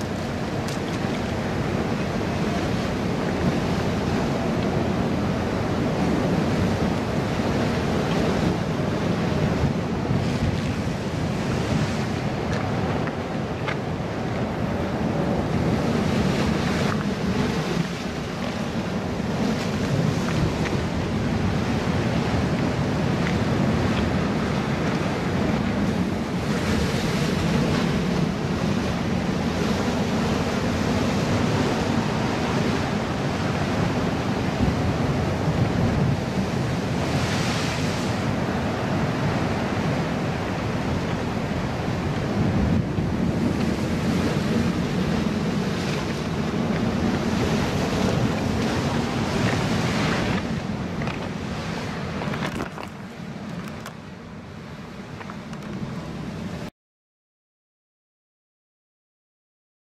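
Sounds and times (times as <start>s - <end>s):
ocean surf breaking on rocks: 0.0s - 56.7s
wind rumbling on microphone: 0.0s - 56.7s.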